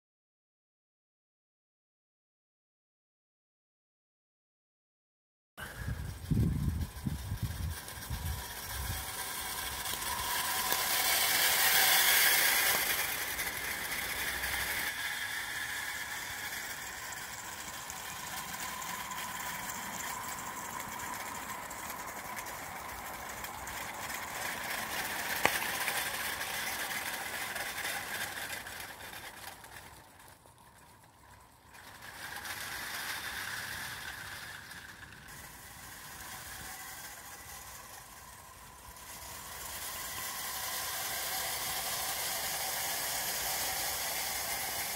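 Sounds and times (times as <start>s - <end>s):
wheels rattling on track: 5.6s - 44.9s.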